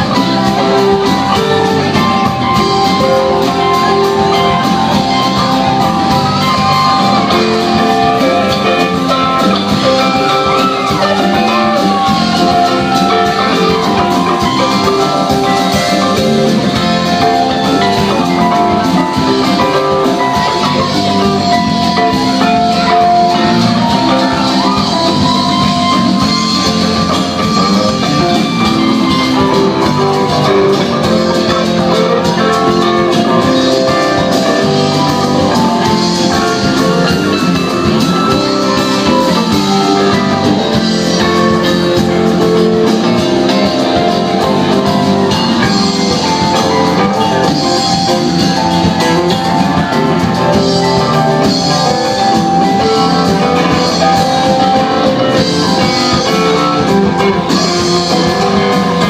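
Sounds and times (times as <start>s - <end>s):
drums: 0.0s - 59.0s
guitar: 0.0s - 59.0s
live band playing: 0.0s - 59.0s.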